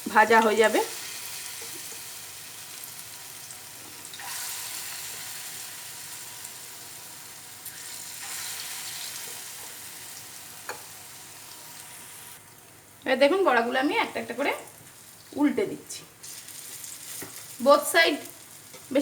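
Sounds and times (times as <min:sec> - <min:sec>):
fritters sizzling in oil: 0:00.0 - 0:19.0.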